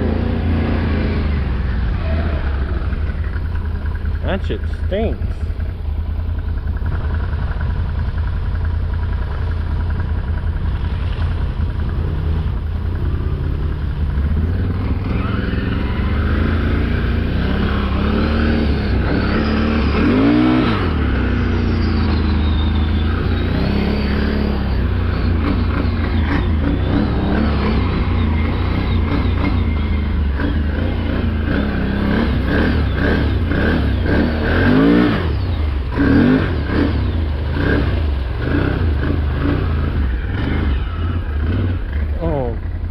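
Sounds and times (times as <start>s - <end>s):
vehicle engine revving: 0.0s - 42.9s.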